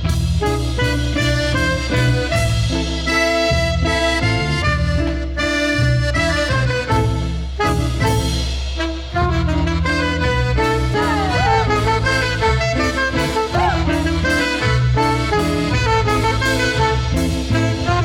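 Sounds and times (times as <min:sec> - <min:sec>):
cumbia band playing: 0:00.0 - 0:18.0
rhythmic bass line: 0:00.0 - 0:18.0.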